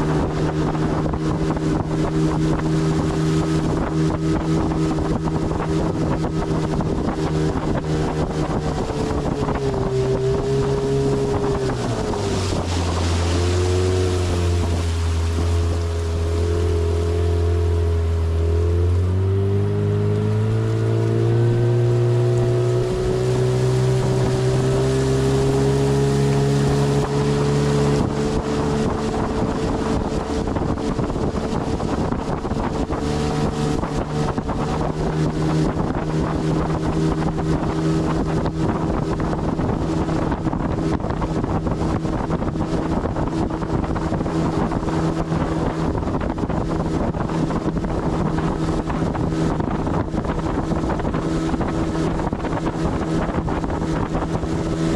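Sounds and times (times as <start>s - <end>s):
motorboat engine running: 0.0s - 54.9s
wind buffeting microphone: 0.0s - 54.9s.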